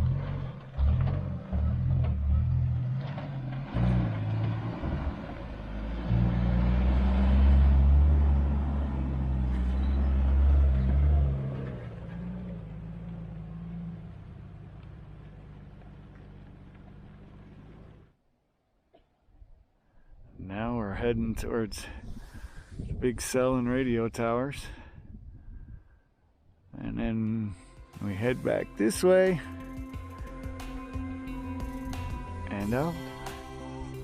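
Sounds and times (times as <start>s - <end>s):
vehicle engine rumbling: 0.0s - 18.2s, 20.1s - 34.0s.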